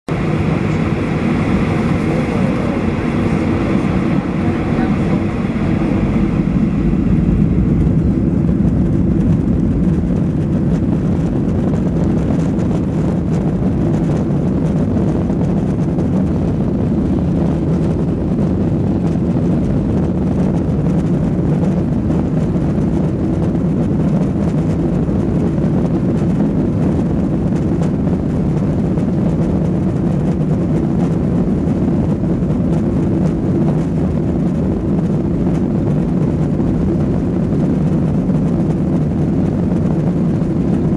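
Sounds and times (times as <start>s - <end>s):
jet engines at takeoff power: 0.1s - 40.9s.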